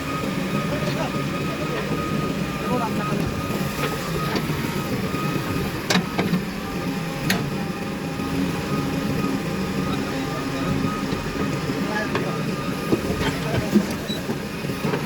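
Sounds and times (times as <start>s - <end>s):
diesel engines running: 0.0s - 15.0s.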